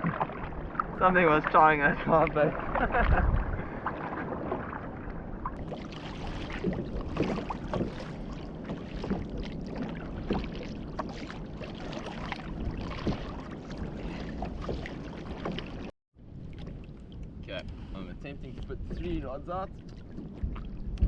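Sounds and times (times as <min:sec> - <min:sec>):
water lapping against hull: 0:00.0 - 0:21.0.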